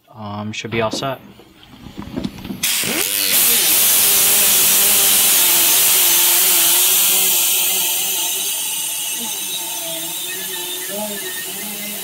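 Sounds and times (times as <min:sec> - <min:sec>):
die grinder grinding steel: 0:00.9 - 0:12.0.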